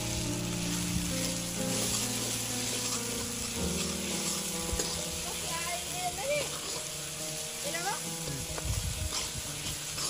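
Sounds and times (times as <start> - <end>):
background music with held notes: 0.0 - 10.0
meat sizzling while stirred: 0.0 - 10.0.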